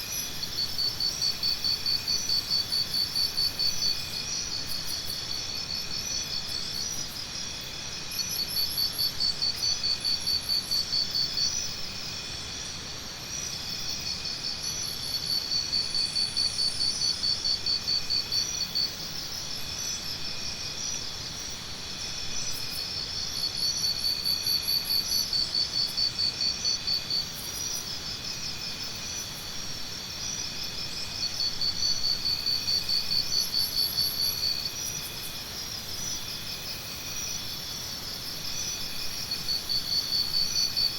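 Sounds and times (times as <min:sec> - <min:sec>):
high insect chorus: 0:00.0 - 0:40.9
loud pulsing insect trill: 0:00.0 - 0:40.9.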